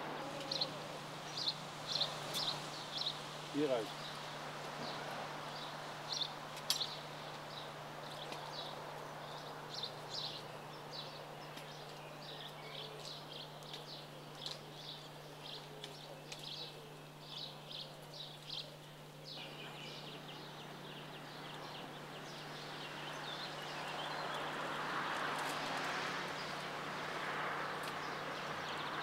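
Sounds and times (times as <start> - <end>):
background hiss: 0.0 - 29.0
small birds chirping: 0.0 - 29.0.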